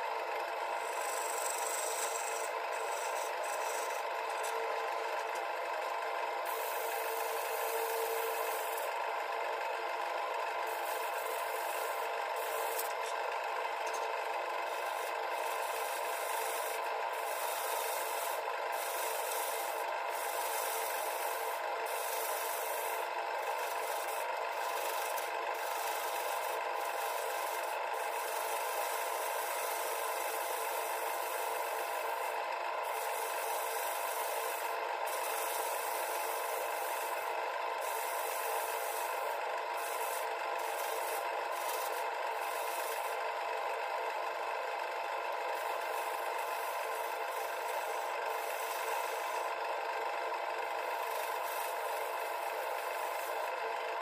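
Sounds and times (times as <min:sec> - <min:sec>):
lathe hum: 0:00.0 - 0:54.0
turning tool scraping wood: 0:00.8 - 0:05.5, 0:06.4 - 0:09.0, 0:10.6 - 0:13.2, 0:13.8 - 0:43.2, 0:45.5 - 0:49.6, 0:50.6 - 0:53.6.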